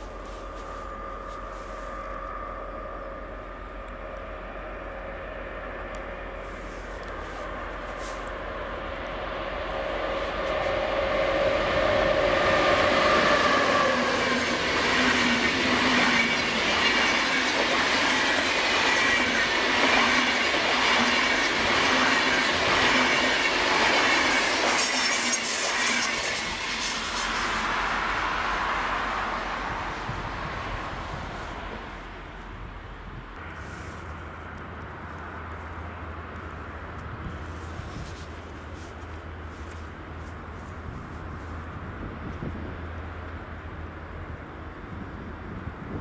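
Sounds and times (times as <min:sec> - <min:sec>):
electric locomotive whine: 0:00.0 - 0:46.0
train wheels on rails: 0:00.0 - 0:46.0.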